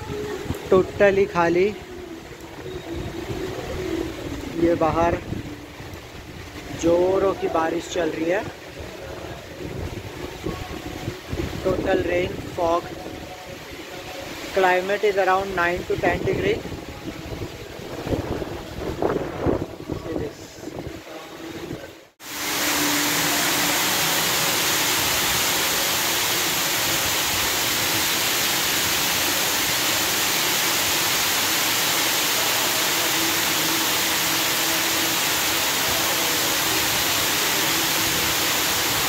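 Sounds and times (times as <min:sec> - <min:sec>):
heavy rain on metal roof: 0:00.0 - 0:39.0.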